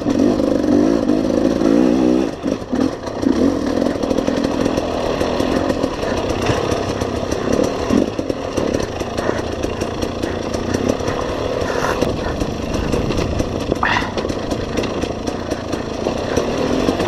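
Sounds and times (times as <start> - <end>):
motorcycle engine revving: 0.0 - 17.0
motorcycle rattling over rough ground: 0.0 - 17.0.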